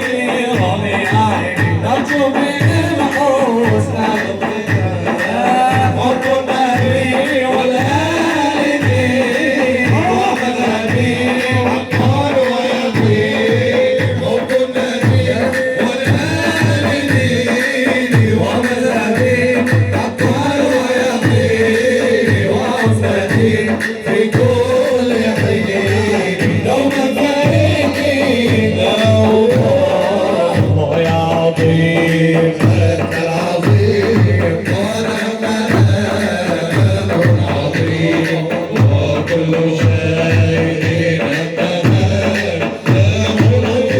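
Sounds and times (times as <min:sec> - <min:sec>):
man singing: 0:00.0 - 0:43.9
repeating drum beat: 0:00.0 - 0:43.9.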